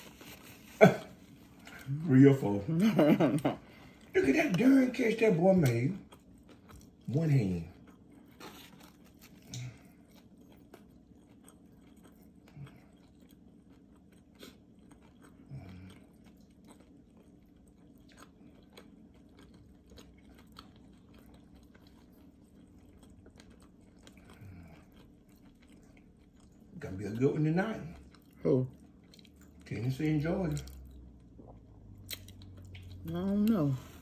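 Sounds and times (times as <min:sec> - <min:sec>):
chewing crisp fried food: 0:00.0 - 0:34.0
low room hum: 0:00.0 - 0:34.0.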